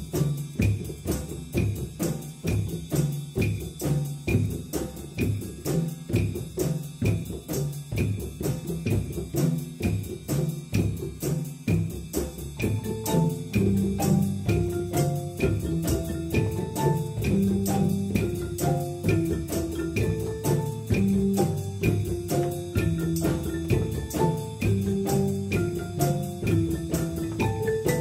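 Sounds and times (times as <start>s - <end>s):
drums playing driving beat: 0.0s - 28.0s
marimba notes: 0.1s - 28.0s.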